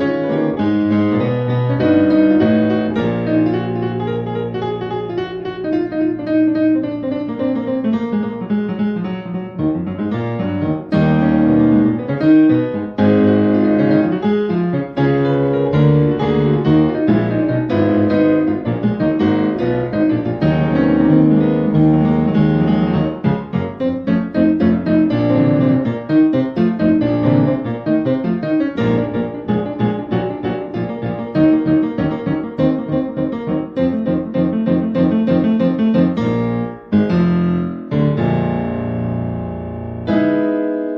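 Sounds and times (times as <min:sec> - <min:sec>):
piano music: 0:00.0 - 0:40.9.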